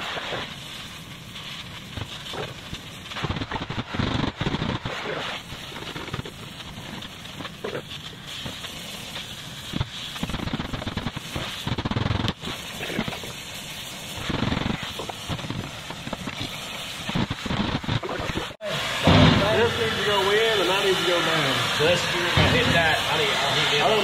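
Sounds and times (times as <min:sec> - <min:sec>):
gas torch crackling: 0:00.0 - 0:24.0.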